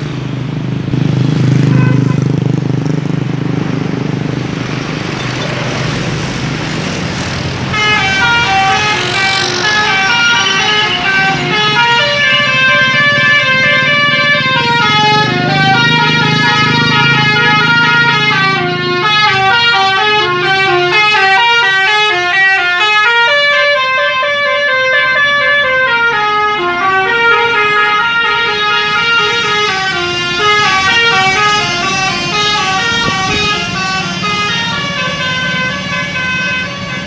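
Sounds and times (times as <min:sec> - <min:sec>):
bus horn melody: 0:00.9 - 0:02.8, 0:07.2 - 0:37.0.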